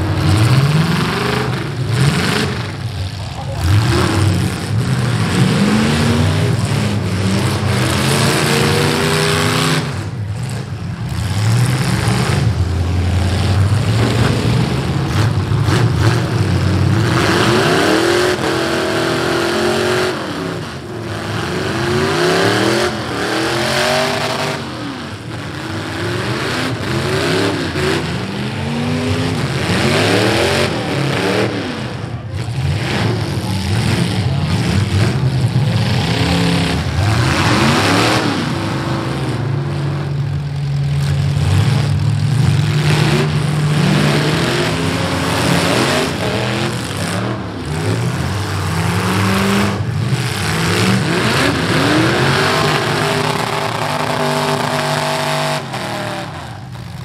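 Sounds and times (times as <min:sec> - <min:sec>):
car engines revving hard: 0:00.0 - 0:57.0
loud arena noise: 0:00.0 - 0:57.0.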